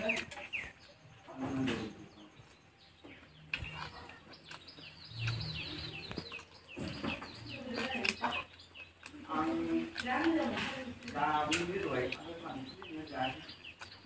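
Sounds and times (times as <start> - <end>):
clicks and smacks of eating: 0.0 - 14.0
small birds chirping: 0.0 - 14.0.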